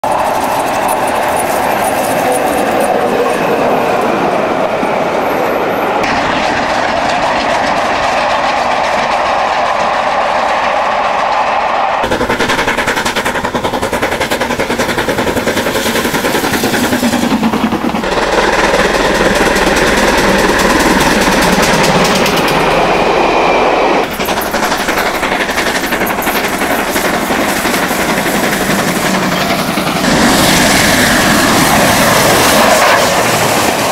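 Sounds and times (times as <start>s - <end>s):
rail clatter: 0.0s - 33.9s
steam locomotive exhaust beats: 6.0s - 33.9s.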